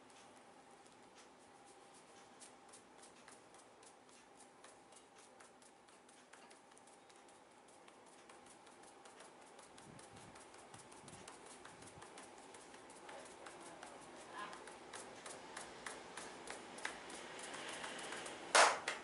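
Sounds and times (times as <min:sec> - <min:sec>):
fingertips tapping on scalp: 0:00.0 - 0:18.7.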